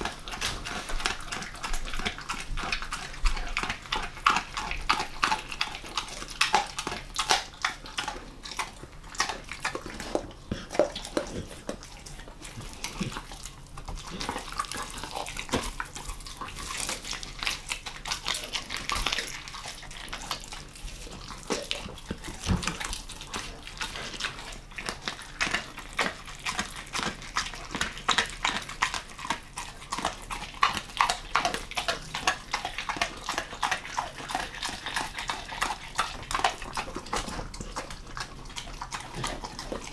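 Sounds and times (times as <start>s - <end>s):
dog chewing wet smacking: 0.0s - 39.9s.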